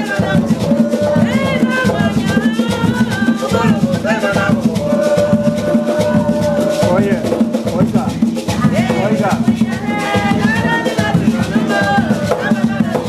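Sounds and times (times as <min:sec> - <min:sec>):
hand drums played fast: 0:00.0 - 0:13.0
maracas shaking: 0:00.0 - 0:13.0
voices singing: 0:00.0 - 0:13.0.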